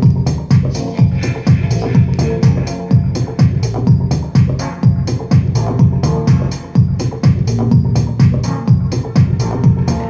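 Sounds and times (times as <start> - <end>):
dance music: 0.0 - 10.0
kick drum: 0.0 - 10.0.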